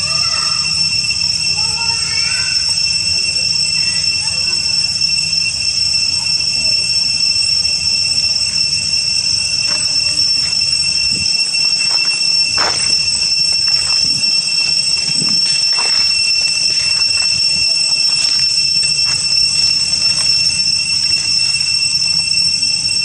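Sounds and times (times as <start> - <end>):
cicadas droning: 0.0 - 23.0.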